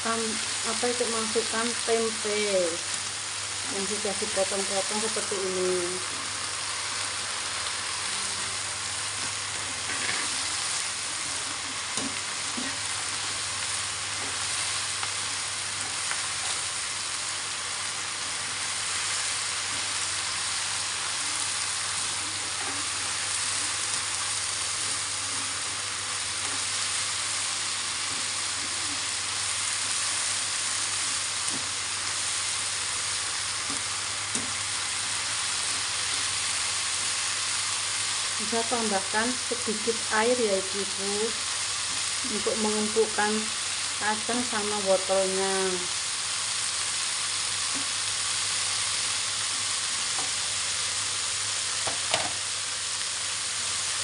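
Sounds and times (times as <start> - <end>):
stir-fry sizzling in a wok: 0.0 - 54.0.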